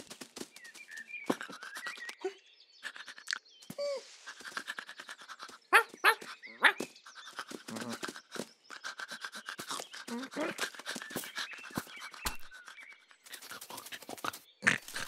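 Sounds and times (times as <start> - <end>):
cartoon dog panting: 1.3 - 15.0.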